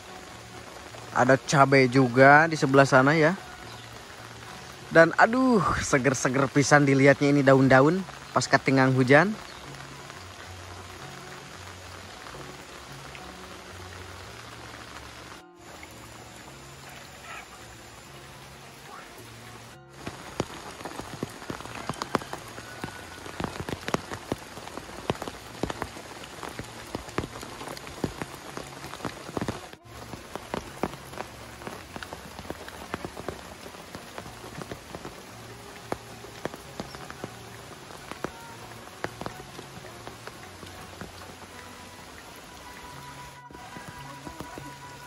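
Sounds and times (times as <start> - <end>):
rain hissing: 0.0 - 45.0
raindrops tapping: 0.0 - 45.0.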